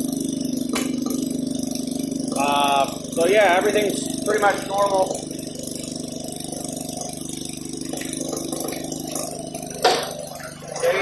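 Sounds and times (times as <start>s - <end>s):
engine puttering with rattle: 0.0s - 11.0s.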